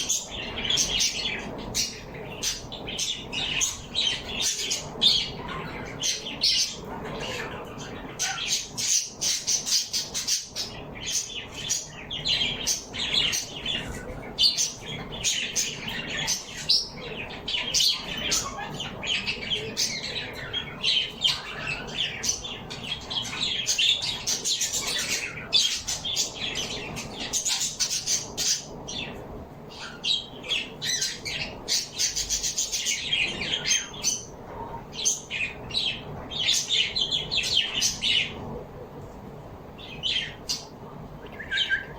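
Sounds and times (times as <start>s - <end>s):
flock of birds chirping and squawking: 0.0s - 39.0s, 39.7s - 41.9s.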